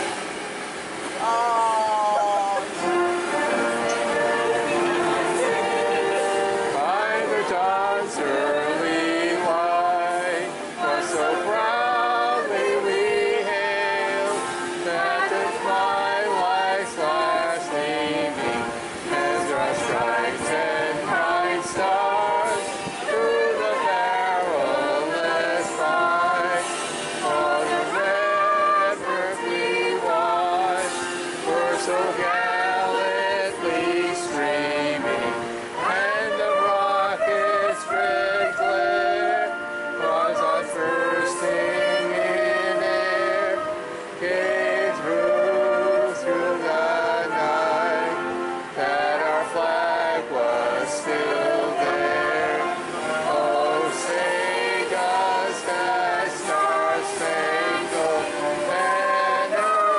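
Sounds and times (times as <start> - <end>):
choir singing with accompaniment: 0.0 - 59.9.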